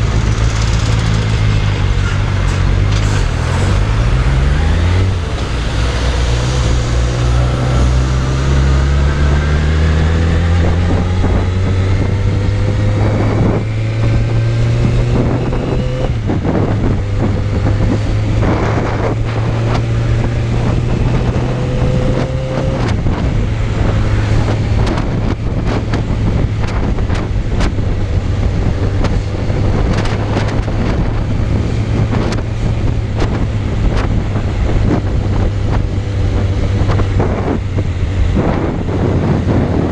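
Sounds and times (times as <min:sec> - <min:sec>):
gear change: 0:00.0 - 0:39.9
motorcycle engine accelerating: 0:00.0 - 0:39.9
wind buffeting microphone: 0:00.0 - 0:39.9.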